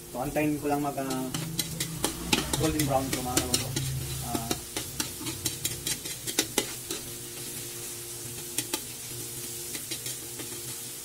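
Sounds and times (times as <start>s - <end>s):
vegetables sizzling in hot oil: 0.0s - 11.0s
spatula scraping a metal pan: 0.5s - 11.0s.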